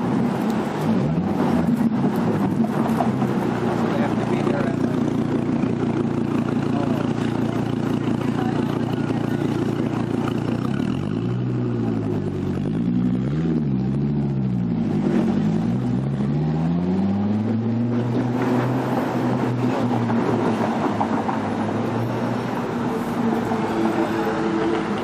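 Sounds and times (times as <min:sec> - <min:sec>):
sports car engine revving: 0:00.0 - 0:20.7
city traffic noise: 0:00.0 - 0:25.0.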